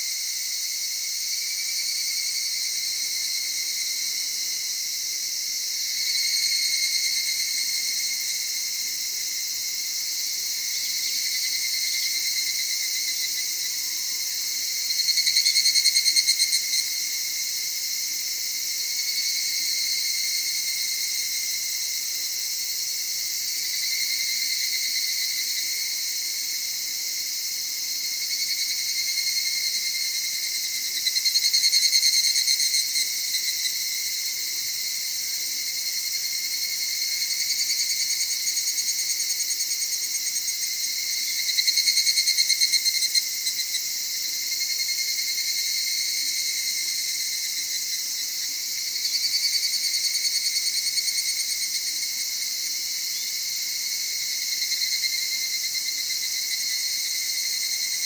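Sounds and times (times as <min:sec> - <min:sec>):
cicadas chorus trilling: 0:00.0 - 0:58.0
loud rapid pulsing cicada phrases: 0:00.0 - 0:58.0.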